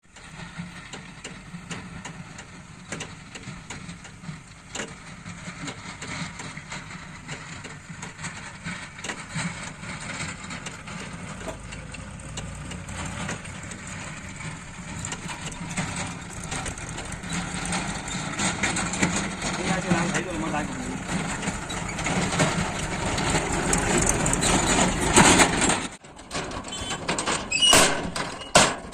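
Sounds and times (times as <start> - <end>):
heavy machinery diesel engine: 0.0 - 28.9
sharp clicks and knocks: 0.1 - 28.9.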